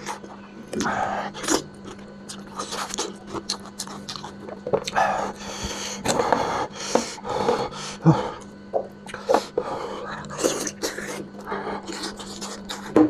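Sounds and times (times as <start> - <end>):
person chewing and sucking meat: 0.0 - 7.0, 8.0 - 13.0.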